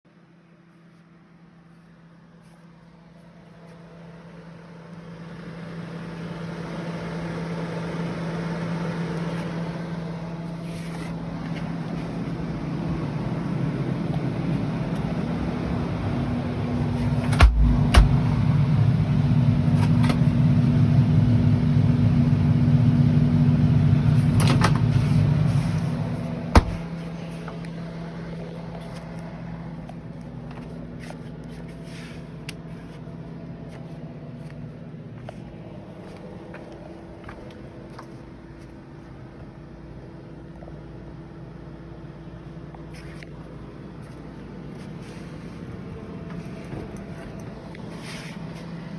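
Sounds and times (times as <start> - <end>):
refrigerator humming: 0.1 - 48.9.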